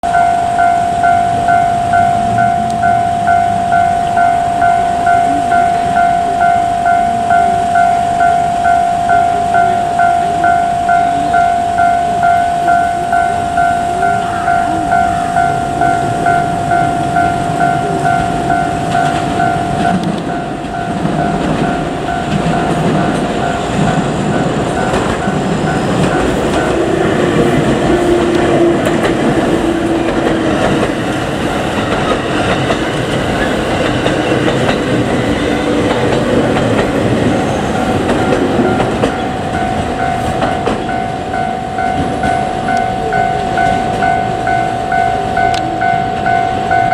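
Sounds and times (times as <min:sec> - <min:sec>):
electric train running noise: 0:00.0 - 0:46.9
level-crossing bell ringing: 0:00.0 - 0:46.9
train wheels clacking: 0:00.0 - 0:46.9.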